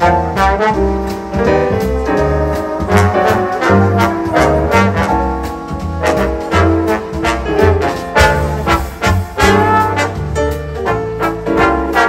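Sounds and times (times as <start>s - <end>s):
double bass: 0.0s - 12.0s
drums keeping a steady beat: 0.0s - 12.0s
trombones playing jazz: 0.0s - 12.0s.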